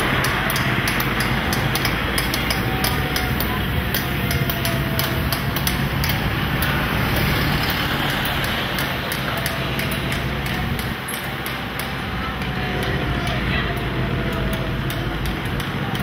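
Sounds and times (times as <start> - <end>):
crowd noise: 0.0 - 16.0
traffic noise: 0.0 - 16.0
vehicle engine humming: 0.0 - 16.0.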